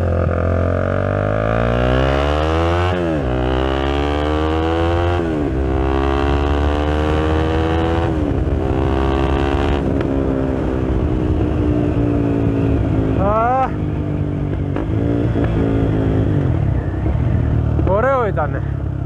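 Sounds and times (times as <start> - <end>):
motorcycle engine revving through gears: 0.0 - 19.0.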